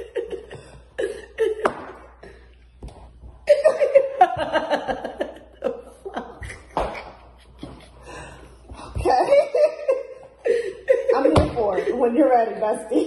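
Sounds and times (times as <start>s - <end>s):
woman laughing hard: 0.0s - 2.4s, 3.4s - 12.0s.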